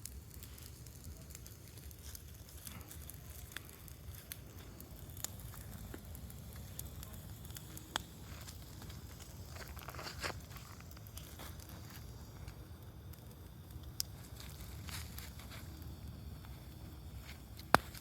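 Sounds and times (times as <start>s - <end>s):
fireworks crackling and popping: 0.0s - 18.0s
steady low rumble: 0.0s - 18.0s.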